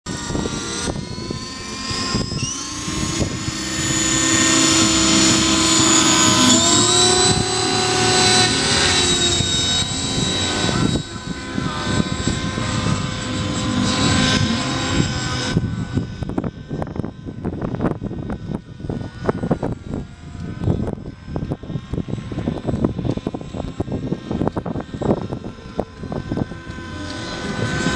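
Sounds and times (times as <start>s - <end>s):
rc helicopter motor whine: 0.1s - 27.9s.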